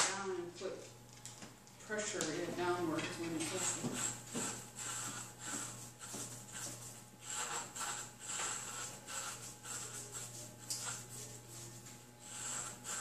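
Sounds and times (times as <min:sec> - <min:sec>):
clipper blades buzzing through hair: 0:02.1 - 0:13.0
electric hair clippers humming: 0:02.2 - 0:13.0.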